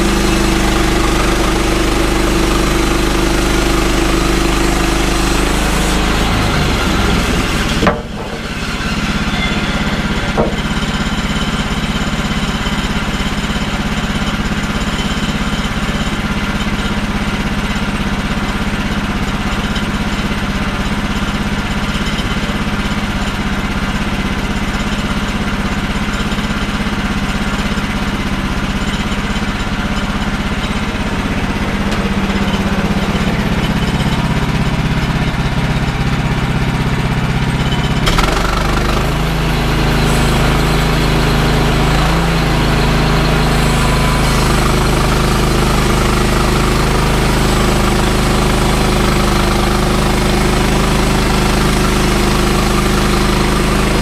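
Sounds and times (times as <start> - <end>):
sawmill gas engine running: 0.0 - 54.0.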